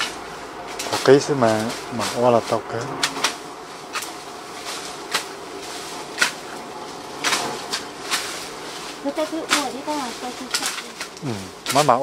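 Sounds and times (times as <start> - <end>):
blades slashing through brush: 0.0 - 12.0
rustle of falling stalks: 0.0 - 12.0.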